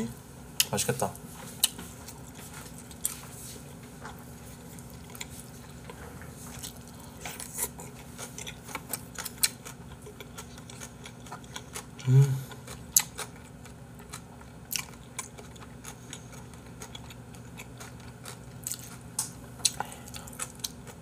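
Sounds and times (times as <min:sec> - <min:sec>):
soft wet chewing: 0:00.6 - 0:21.0.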